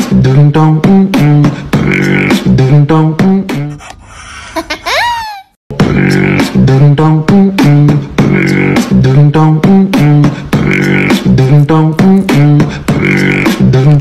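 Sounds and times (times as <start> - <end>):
vocal music with beatbox percussion: 0.0 - 4.0, 5.7 - 14.0.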